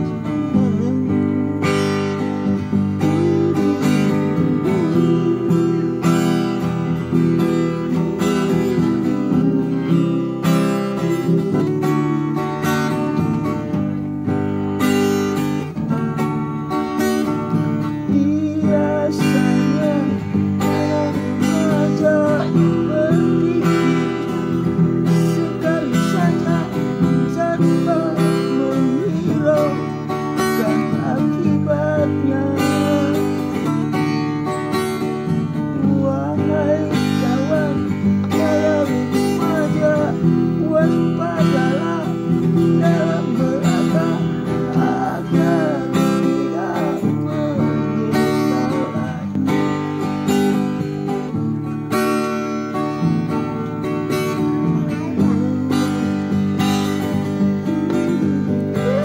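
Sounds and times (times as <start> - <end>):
man singing: 0.0 - 14.0, 14.8 - 59.0
acoustic guitar strumming: 0.0 - 59.0.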